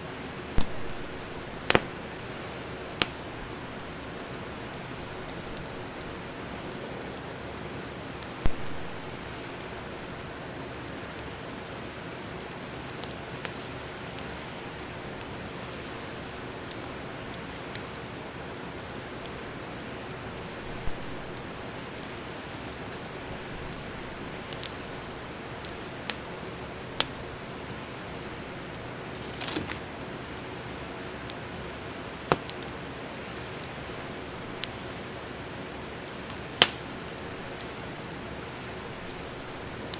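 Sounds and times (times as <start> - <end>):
campfire hissing: 0.0 - 39.9
fire crackling and popping: 0.0 - 39.9.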